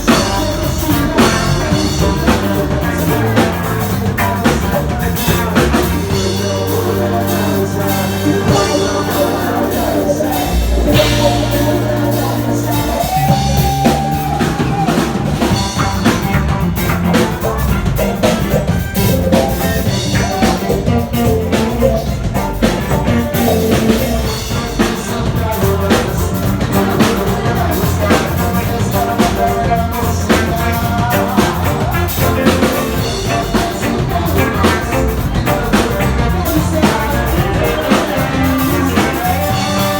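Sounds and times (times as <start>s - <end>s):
band playing ska: 0.0s - 39.9s
person singing: 0.0s - 39.9s.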